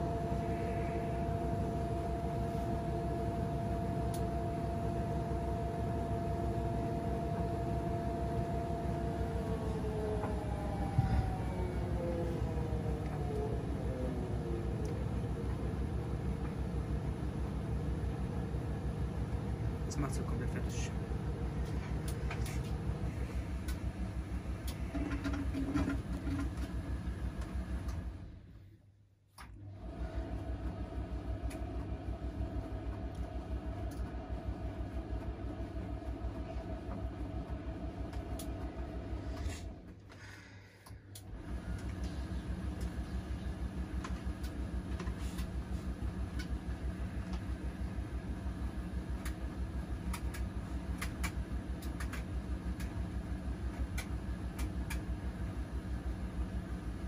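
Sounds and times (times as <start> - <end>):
washing machine spinning: 0.0 - 28.6, 29.4 - 40.1, 41.0 - 57.0.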